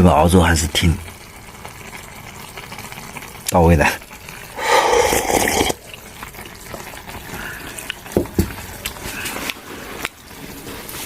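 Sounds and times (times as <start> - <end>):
liquid pouring into a pot: 0.1 - 10.4
low steady bubbling: 0.3 - 9.6.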